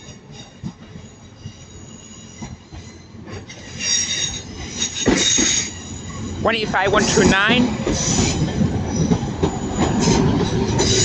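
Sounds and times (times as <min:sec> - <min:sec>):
train wheels squealing: 0:00.0 - 0:06.4, 0:07.0 - 0:11.0
low train rumble: 0:00.0 - 0:11.0.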